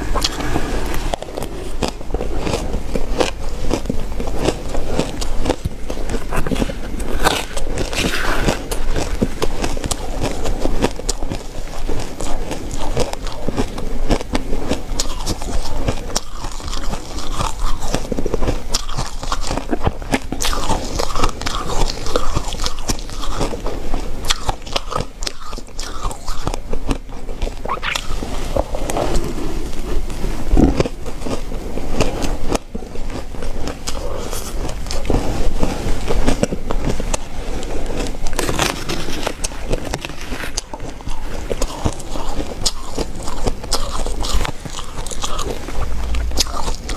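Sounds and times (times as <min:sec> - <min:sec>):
ice being bitten and chewed: 0:00.0 - 0:46.9.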